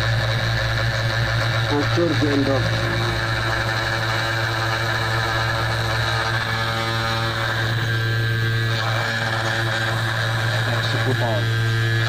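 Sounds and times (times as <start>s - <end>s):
end mill engraving metal: 0.0s - 12.0s
spindle motor humming: 0.0s - 12.0s.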